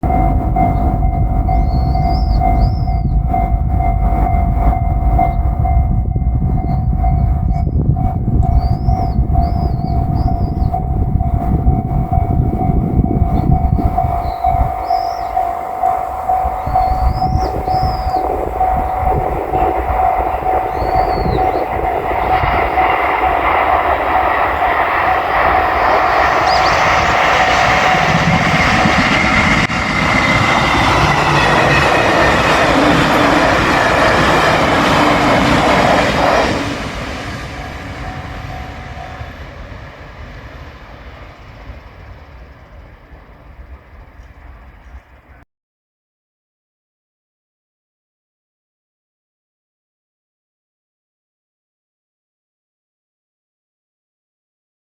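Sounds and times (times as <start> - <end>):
level crossing warning bell: 0.0 - 44.1
electric train passing: 0.0 - 45.4.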